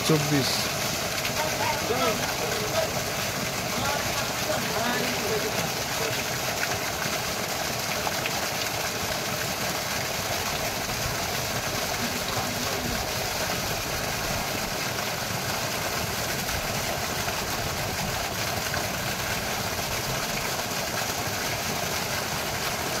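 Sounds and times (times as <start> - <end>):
water jet splashing onto ground: 0.0 - 23.0.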